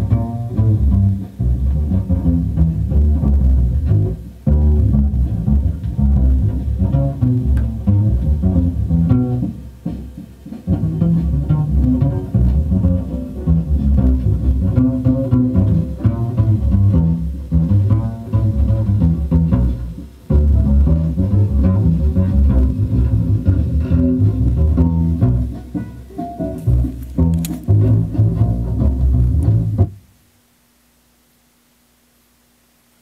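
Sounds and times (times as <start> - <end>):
jazz with plucked double bass: 0.0 - 30.1.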